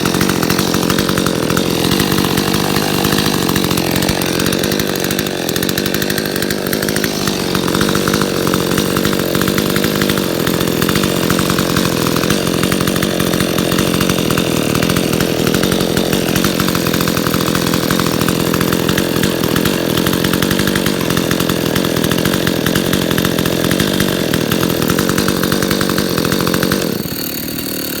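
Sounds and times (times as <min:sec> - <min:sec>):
chainsaw running: 0:00.0 - 0:28.0.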